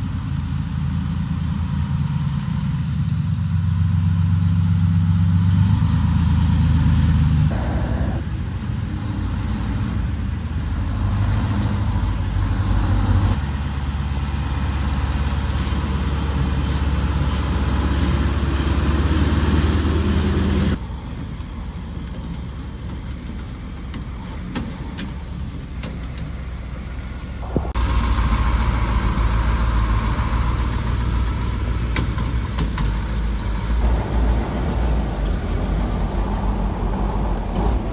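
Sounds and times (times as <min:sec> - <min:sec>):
heavy trucks driving: 0:00.0 - 0:37.9.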